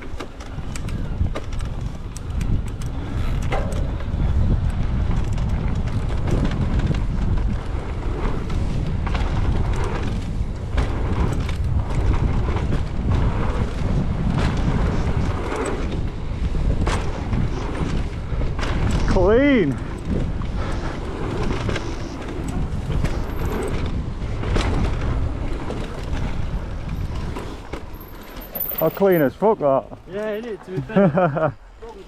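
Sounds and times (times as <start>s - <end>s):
bike rattling clicks and knocks: 0.0s - 31.5s
wind rushing over microphone: 0.0s - 31.8s.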